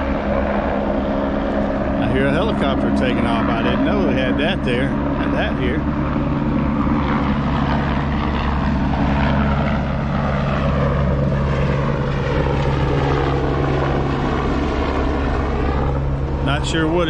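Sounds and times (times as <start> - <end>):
helicopter taking off: 0.0 - 17.0.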